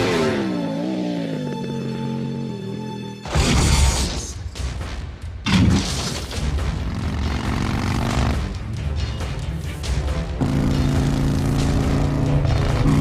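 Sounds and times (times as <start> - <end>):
action film music: 0.0 - 13.0.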